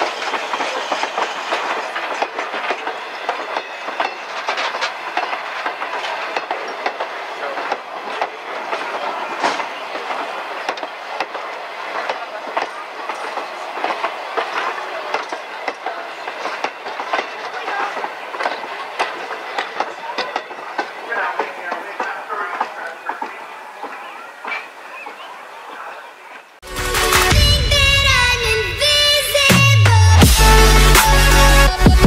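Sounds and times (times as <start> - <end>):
train wheels clicking over rail joints: 0.0 - 26.6
rumble of rolling train cars: 0.0 - 32.0.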